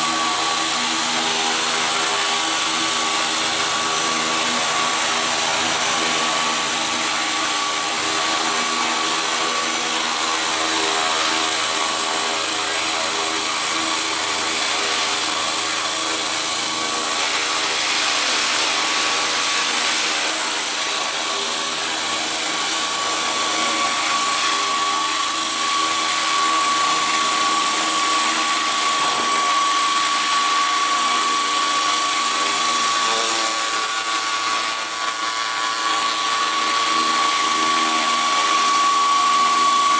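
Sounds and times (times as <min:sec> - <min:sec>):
rc helicopter motor and rotors whining: 0:00.0 - 0:39.9.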